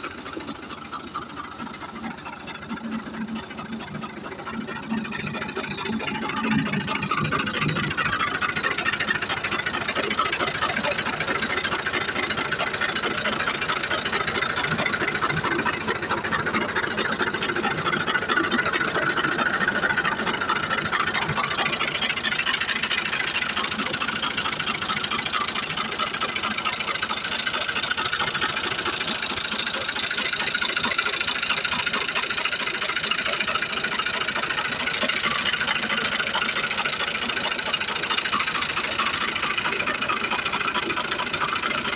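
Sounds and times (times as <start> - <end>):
diesel tractor engine clattering: 0.0 - 41.9.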